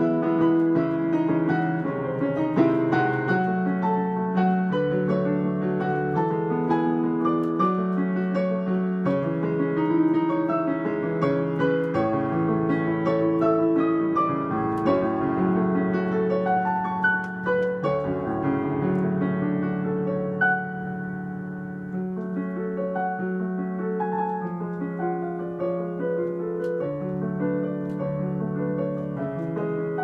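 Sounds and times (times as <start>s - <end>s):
solo piano piece: 0.0s - 30.0s.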